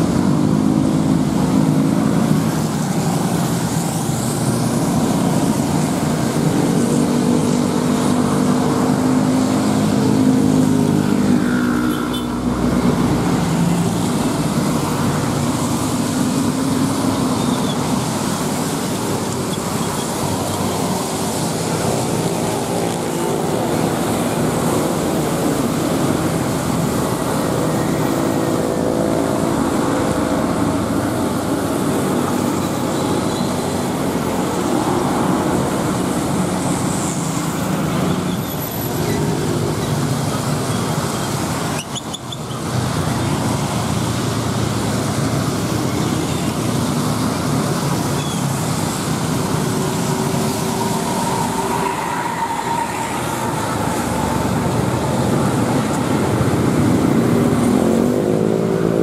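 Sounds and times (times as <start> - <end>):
tyres hissing on wet road: 0.0 - 59.0
vehicles passing on wet road: 0.0 - 59.0.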